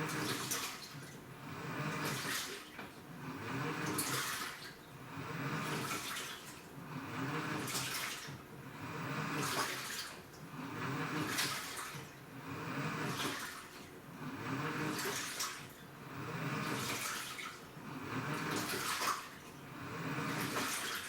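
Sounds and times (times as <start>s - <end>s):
washing machine motor hum: 0.0s - 21.0s
water churning in washing machine: 0.0s - 21.0s.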